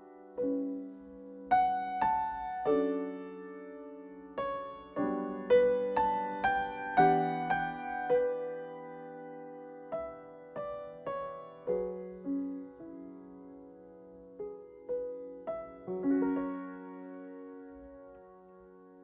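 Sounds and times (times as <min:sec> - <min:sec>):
slow soft piano music: 0:00.0 - 0:19.0.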